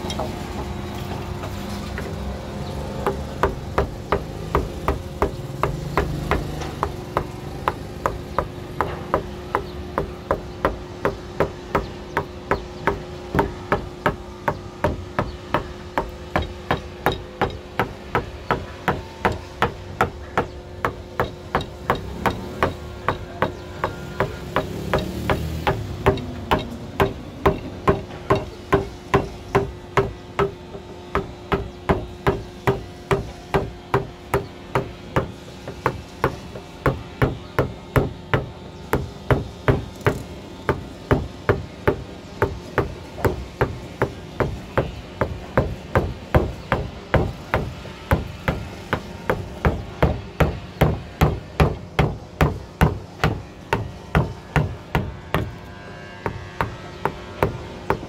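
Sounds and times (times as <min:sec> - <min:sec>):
hammer striking chisel: 0:03.0 - 0:58.0.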